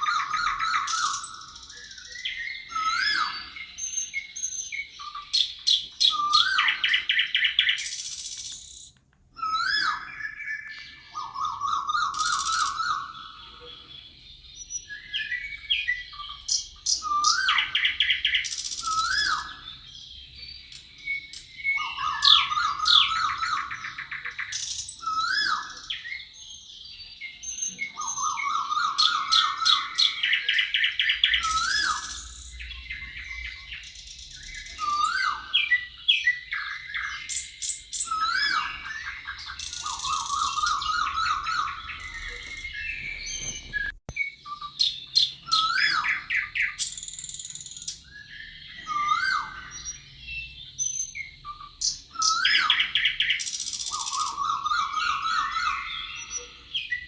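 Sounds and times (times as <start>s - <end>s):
bird whistled song with trill: 0.0s - 57.0s
birds chirping and trilling: 0.0s - 57.0s.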